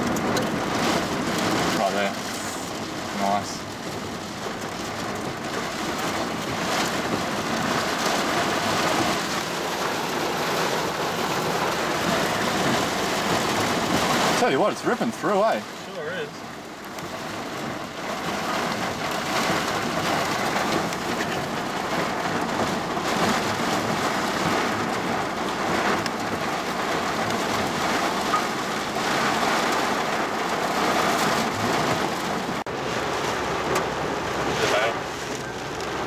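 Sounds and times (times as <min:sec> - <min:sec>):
heavy rain lashing vehicle: 0:00.0 - 0:36.0.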